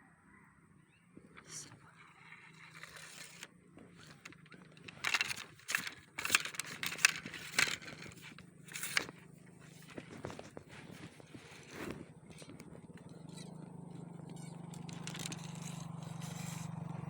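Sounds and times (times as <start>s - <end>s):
handling noise rustling and crackling: 1.2s - 17.0s.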